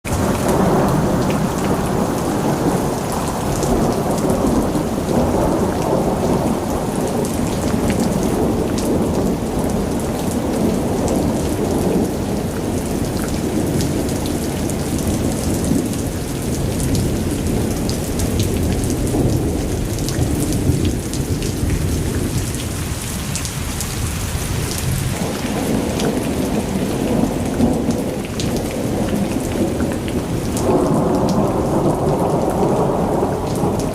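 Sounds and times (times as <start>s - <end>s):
heavy rain pouring: 0.0s - 33.9s
raindrops ticking on surfaces: 0.0s - 33.9s.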